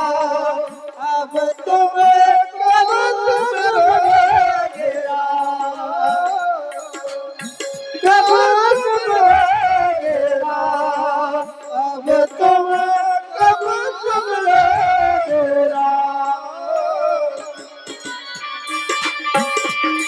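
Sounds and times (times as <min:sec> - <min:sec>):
devotional singing: 0:00.0 - 0:18.8.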